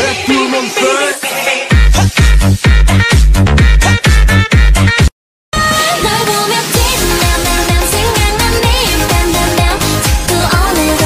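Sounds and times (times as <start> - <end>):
heavy bass-drum beat: 0.0 - 5.1, 6.8 - 11.0
electronic dance music: 0.0 - 11.0.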